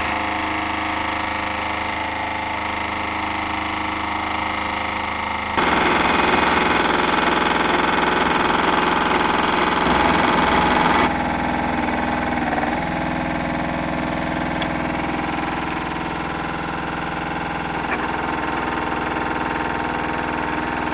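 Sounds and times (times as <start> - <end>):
drill rig engine drilling: 0.0 - 20.9.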